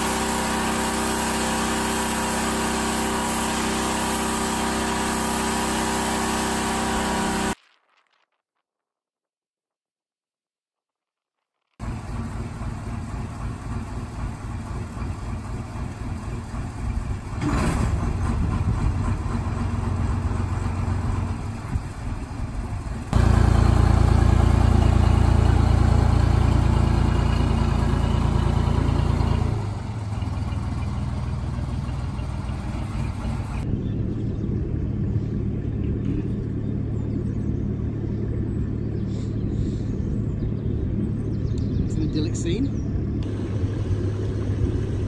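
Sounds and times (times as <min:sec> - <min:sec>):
boat engine running: 0:00.0 - 0:07.6, 0:11.8 - 0:45.0.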